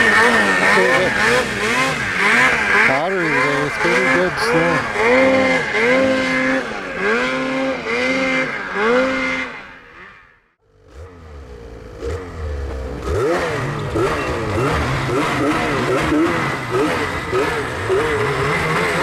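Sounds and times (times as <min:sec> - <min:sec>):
snowmobile engine revving: 0:00.0 - 0:19.0
snowmobile engine rumbling close: 0:00.0 - 0:19.0.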